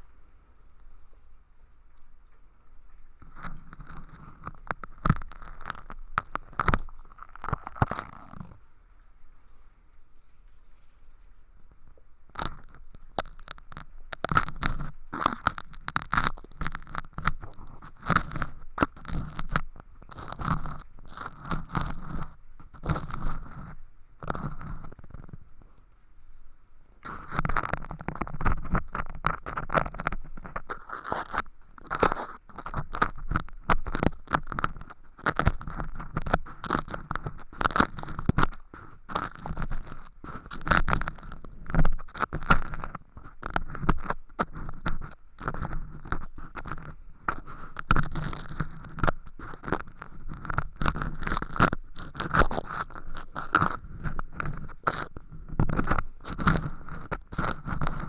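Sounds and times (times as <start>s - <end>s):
earpick scraping flakes: 3.3s - 8.6s, 12.4s - 25.4s, 27.1s - 58.0s.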